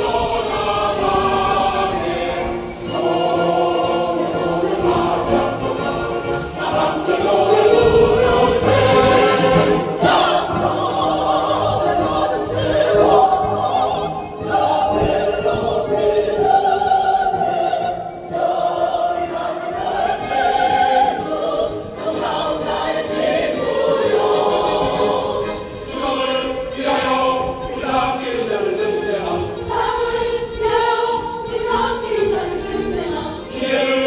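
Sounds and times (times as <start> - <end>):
mixed choir singing in harmony: 0.0 - 34.0.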